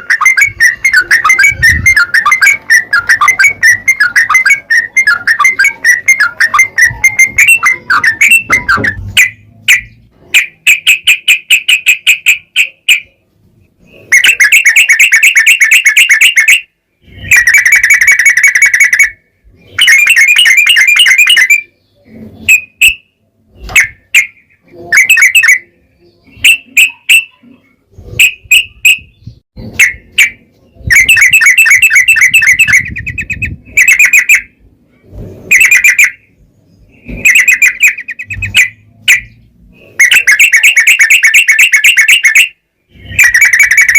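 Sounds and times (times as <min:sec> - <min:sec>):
bird singing chattering trills: 0:00.0 - 0:34.6, 0:35.5 - 0:43.9.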